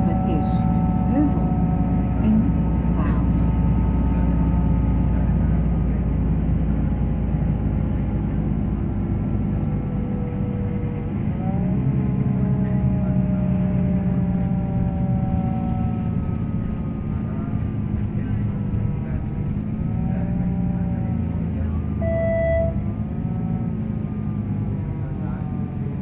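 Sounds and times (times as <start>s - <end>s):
bus engine droning: 0.0s - 26.0s
road noise: 0.0s - 26.0s.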